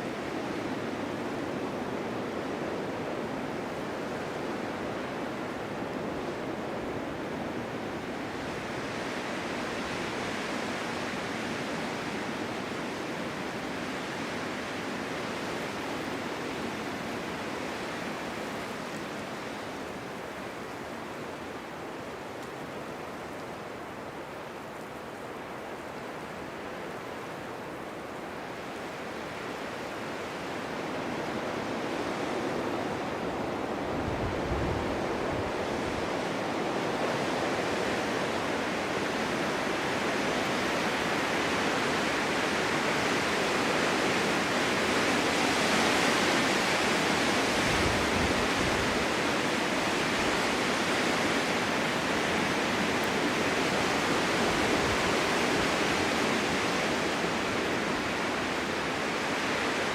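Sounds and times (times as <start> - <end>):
gusting snowstorm wind: 0.0 - 59.9.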